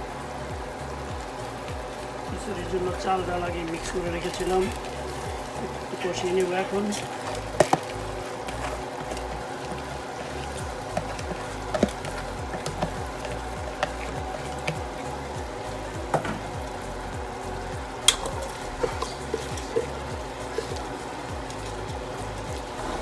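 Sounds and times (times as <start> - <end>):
background music: 0.0 - 23.0
frying in oil: 0.0 - 23.0
rice pouring into pot: 0.0 - 23.0.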